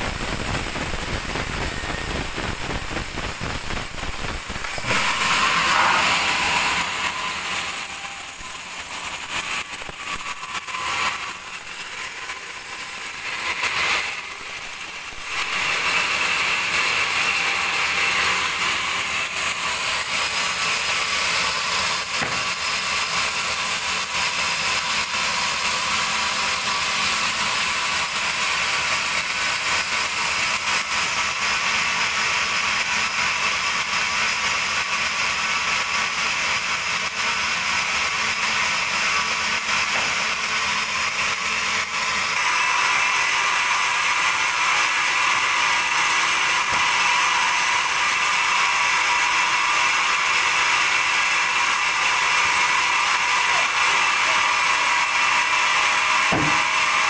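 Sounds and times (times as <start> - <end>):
band saw blade whirring: 0.0 - 24.4, 26.6 - 57.0.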